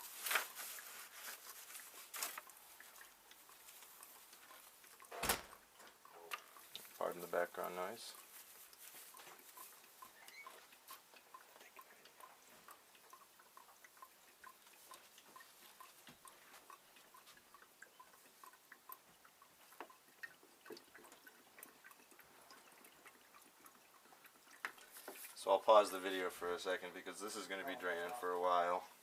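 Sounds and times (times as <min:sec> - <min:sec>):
oil dripping into a tub: 0:00.0 - 0:29.0.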